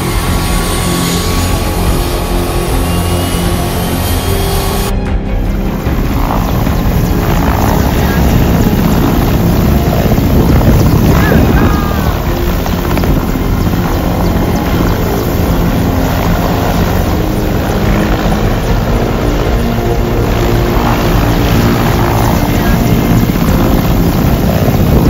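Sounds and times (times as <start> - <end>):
helicopter in flight: 0.0 - 25.0.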